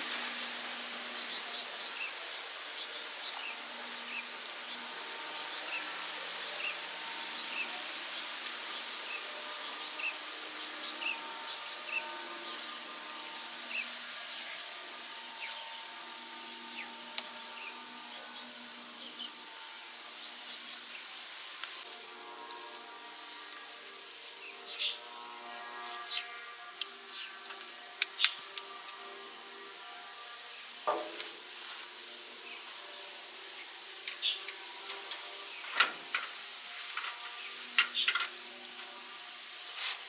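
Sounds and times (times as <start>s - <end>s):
steady high hiss: 0.0s - 40.0s.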